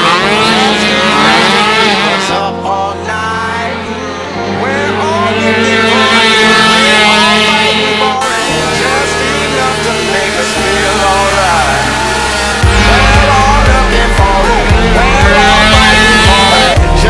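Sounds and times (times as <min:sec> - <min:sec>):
atv engines revving: 0:00.0 - 0:17.0
background music with bass line: 0:00.0 - 0:17.0.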